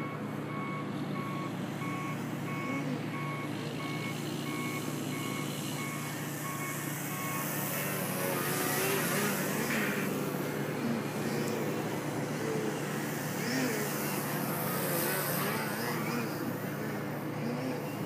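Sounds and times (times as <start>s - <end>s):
model plane motor and propeller buzzing: 3.5s - 18.0s.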